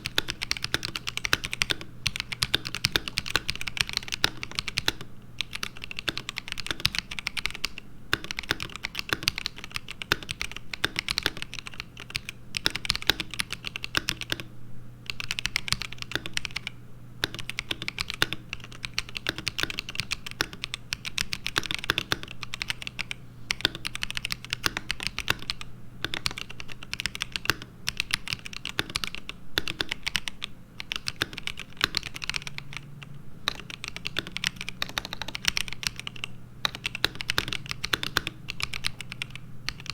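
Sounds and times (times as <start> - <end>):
mechanical keyboard typing: 0.0 - 14.5, 15.1 - 39.9.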